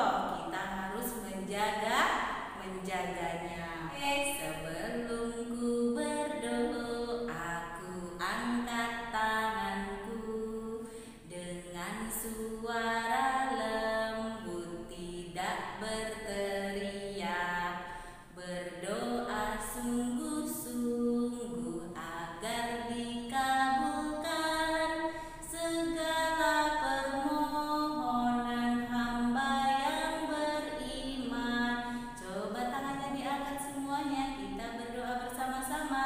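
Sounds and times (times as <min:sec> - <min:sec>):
woman singing unaccompanied: 0:00.0 - 0:36.0.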